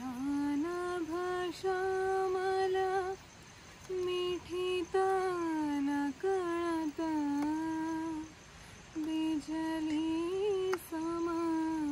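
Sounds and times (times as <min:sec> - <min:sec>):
woman humming a slow tune: 0:00.0 - 0:03.2, 0:03.9 - 0:11.9.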